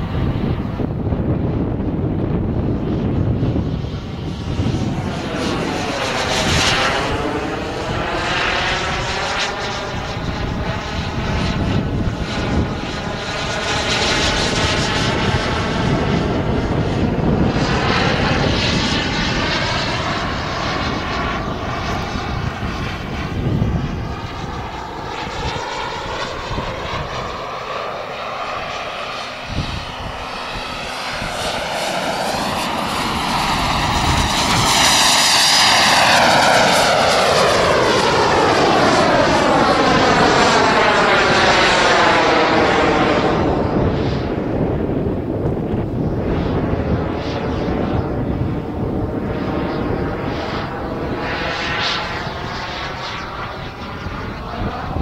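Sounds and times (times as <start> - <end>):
model jet turbine whine: 0.0 - 55.0.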